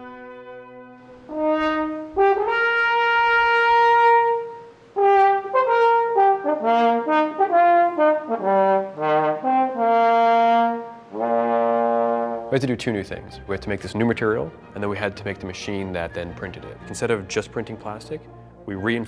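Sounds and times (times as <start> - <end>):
french horn melody: 0.0 - 19.0.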